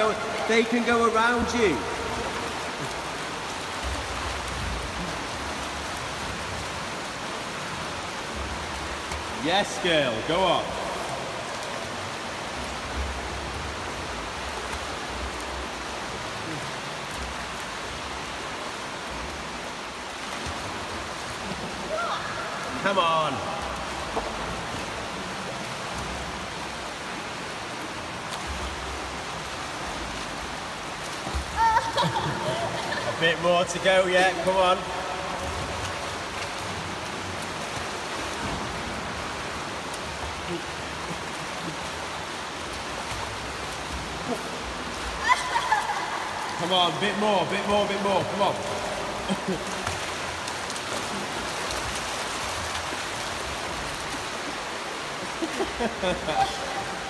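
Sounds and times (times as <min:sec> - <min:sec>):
swimmers splashing in pool: 0:00.0 - 0:57.0.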